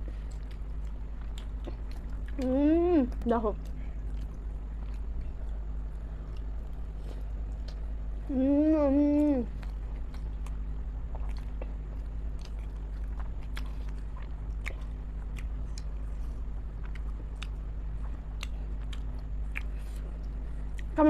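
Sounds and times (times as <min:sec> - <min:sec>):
person chewing: 0:00.0 - 0:02.6, 0:03.6 - 0:21.0
steady low hum: 0:00.0 - 0:21.0.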